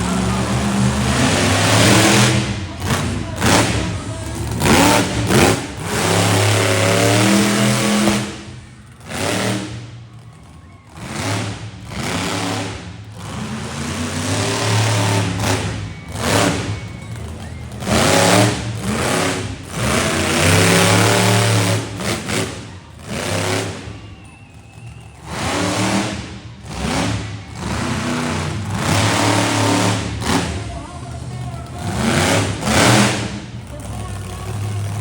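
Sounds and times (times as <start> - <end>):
monster truck engines revving: 0.0 - 35.0.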